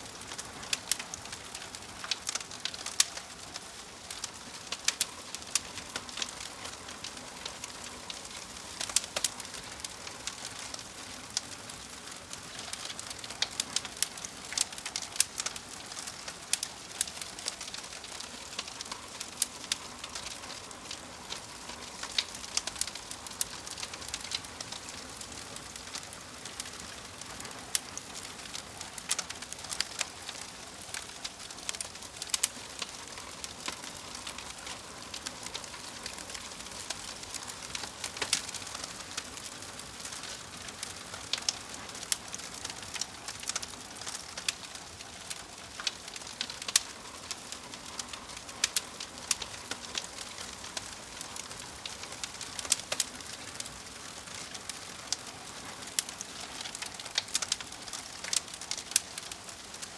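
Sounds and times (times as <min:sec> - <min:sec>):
log fire crackling: 0:00.0 - 0:59.9.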